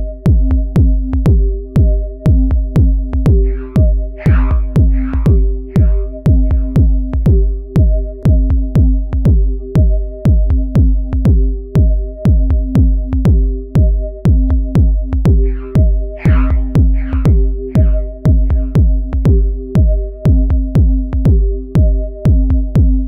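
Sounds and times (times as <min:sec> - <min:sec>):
electronic music with drum beat: 0:00.0 - 0:23.0.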